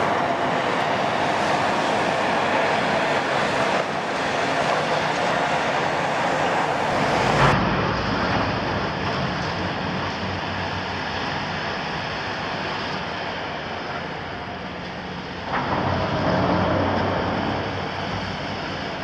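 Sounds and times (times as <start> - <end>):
excavator diesel engine drone: 0.0 - 19.0.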